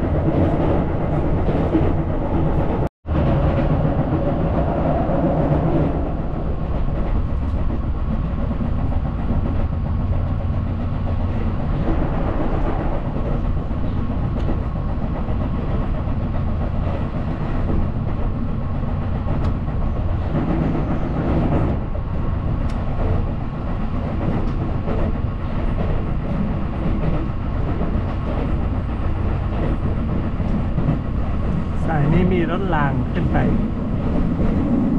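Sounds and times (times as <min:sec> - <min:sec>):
train rumbling inside carriage: 0:00.0 - 0:34.9.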